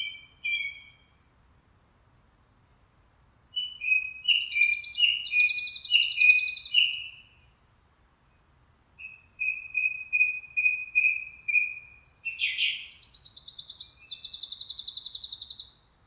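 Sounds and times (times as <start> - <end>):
songbird singing: 0.0 - 1.7, 2.6 - 7.6, 9.0 - 16.0.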